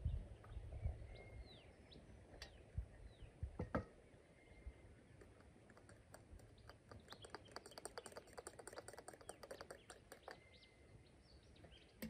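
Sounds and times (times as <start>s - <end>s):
wild birds chattering and whistling: 0.0s - 12.0s.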